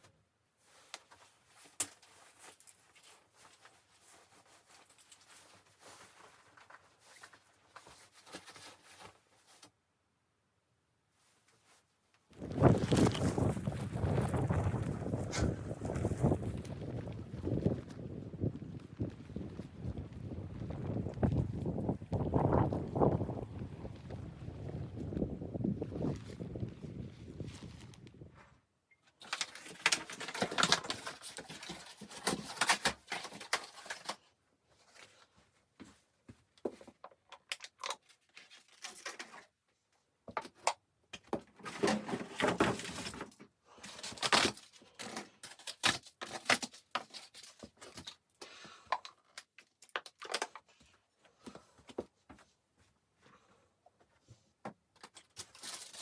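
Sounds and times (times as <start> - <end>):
rustling and clicking handling noise: 0.0 - 9.9, 11.2 - 56.0.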